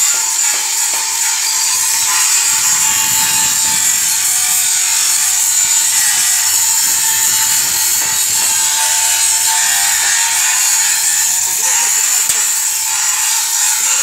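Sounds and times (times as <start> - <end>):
arc welding crackling and hissing: 0.0 - 14.0.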